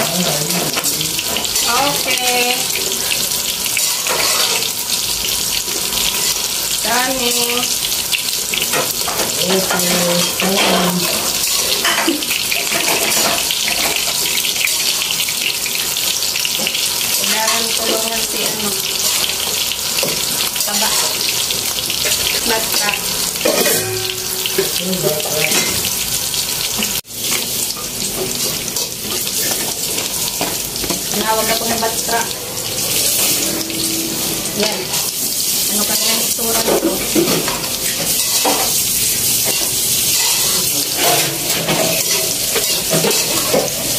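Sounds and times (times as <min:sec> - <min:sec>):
noodles sizzling in a wok: 0:00.0 - 0:43.9.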